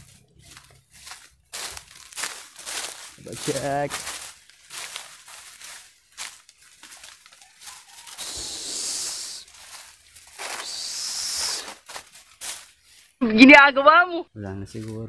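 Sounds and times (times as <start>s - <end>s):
footsteps crunching dry leaves: 0.0s - 13.2s, 14.7s - 15.0s.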